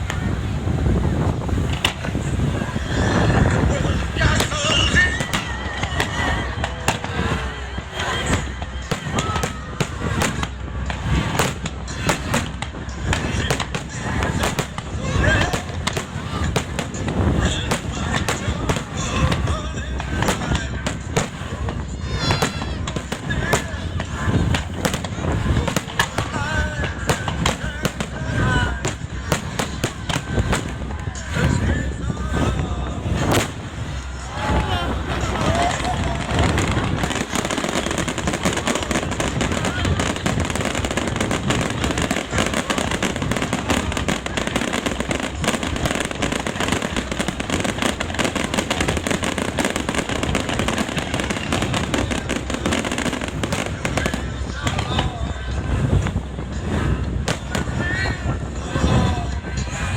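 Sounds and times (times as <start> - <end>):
fireworks bangs: 0.0 - 59.9
low rumble: 0.0 - 59.9.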